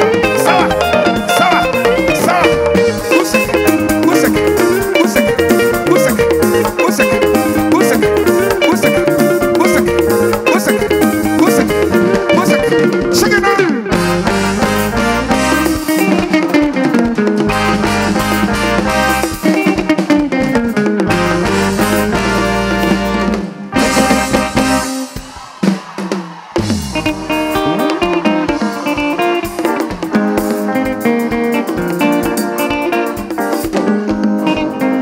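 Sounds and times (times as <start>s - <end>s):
live band playing: 0.0s - 35.0s.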